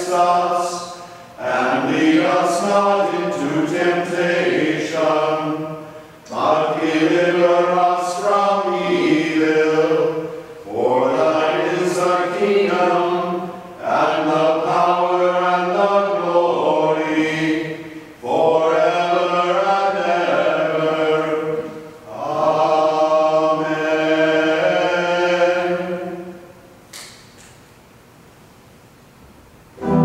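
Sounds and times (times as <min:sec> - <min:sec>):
voices singing a liturgical chant: 0:00.0 - 0:26.6.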